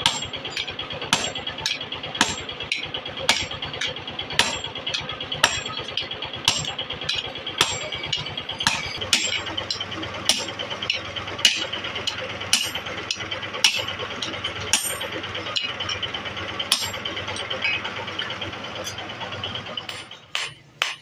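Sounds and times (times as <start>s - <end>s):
sledgehammer striking metal: 0.0s - 16.1s, 16.7s - 17.9s
engine-like hum: 0.0s - 21.0s.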